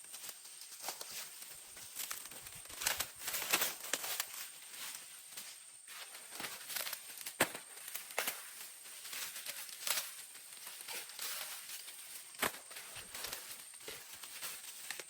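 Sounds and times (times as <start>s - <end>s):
dry leaves rustling: 0.0s - 15.0s
leaves snapping: 0.1s - 4.4s, 6.3s - 15.0s.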